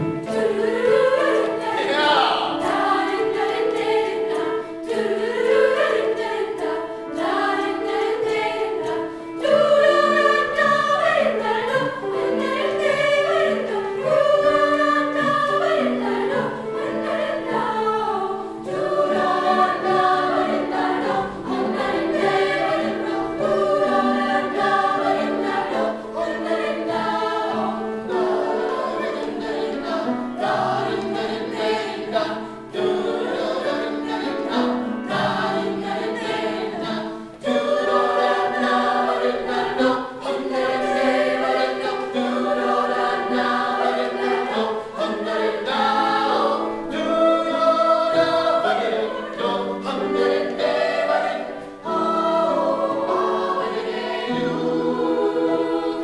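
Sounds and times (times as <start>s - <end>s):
youth choir singing: 0.0s - 56.0s.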